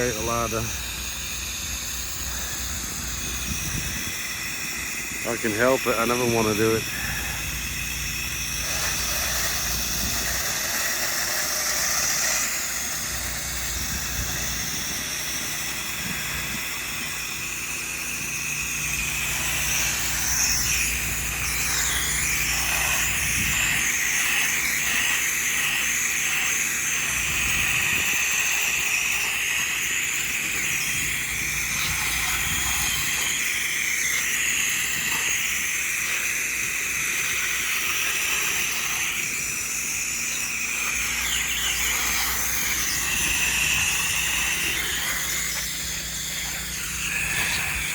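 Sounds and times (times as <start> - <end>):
pump humming: 0.0 - 47.9
spray nozzle hissing: 0.0 - 47.9.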